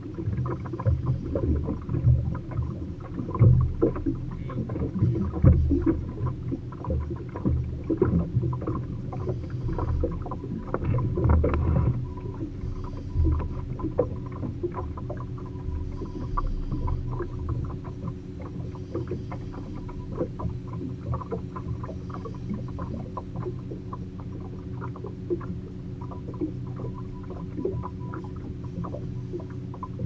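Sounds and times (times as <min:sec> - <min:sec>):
faint steady hum: 0:00.0 - 0:30.0
low rumble: 0:00.0 - 0:30.0
water lapping against boat hull: 0:00.0 - 0:30.0.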